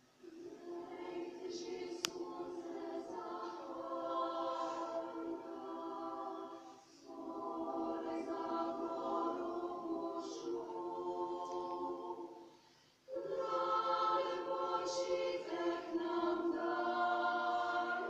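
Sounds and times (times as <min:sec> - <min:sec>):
women's choir singing: 0:00.2 - 0:18.0.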